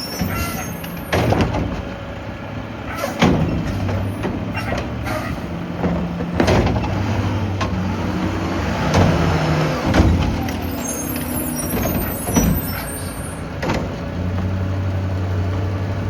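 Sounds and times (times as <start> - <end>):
trash bangs and clanks: 0.0 - 8.0, 8.7 - 14.2
diesel engine hum: 0.0 - 16.0.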